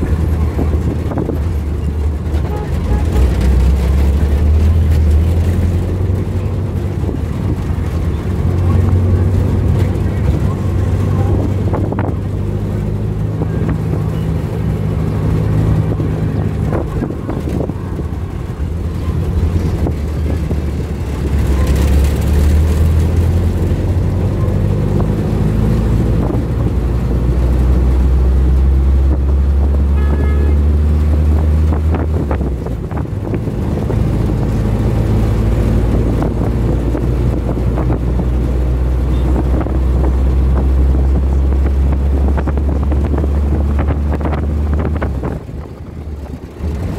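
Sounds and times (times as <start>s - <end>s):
vehicle engine running: 0.0s - 46.9s
wind buffeting microphone: 0.0s - 46.9s.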